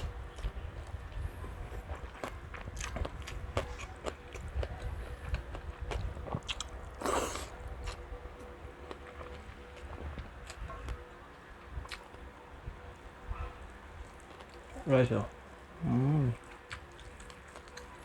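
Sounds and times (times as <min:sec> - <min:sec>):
crunching and chewing crispy food: 0:00.0 - 0:18.0.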